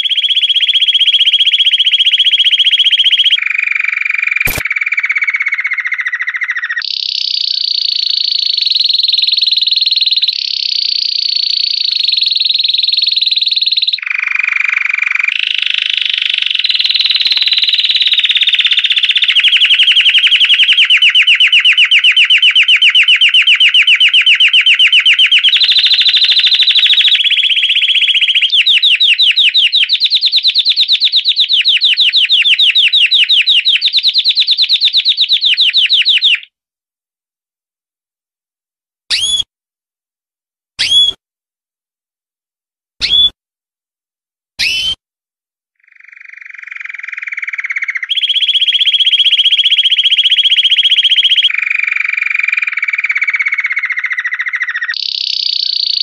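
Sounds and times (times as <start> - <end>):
canary singing: 0.0 - 3.4, 4.5 - 9.4, 11.0 - 36.5, 39.1 - 39.4, 40.8 - 41.2, 43.0 - 43.3, 44.6 - 45.0, 45.8 - 56.0.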